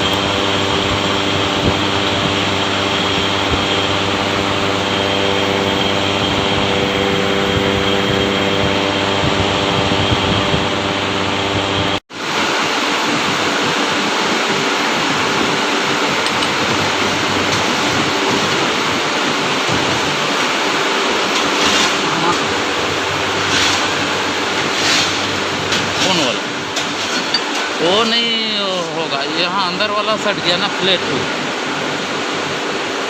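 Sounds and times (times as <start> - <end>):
noisy steady rush: 0.0 - 33.0
workshop machinery humming: 0.0 - 33.0.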